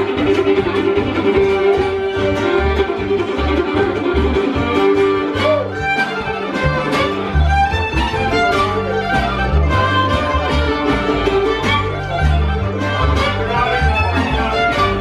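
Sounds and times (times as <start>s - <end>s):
bluegrass band playing: 0.0s - 15.0s
fiddle melody: 0.0s - 15.0s
upright bass plucking: 0.0s - 15.0s.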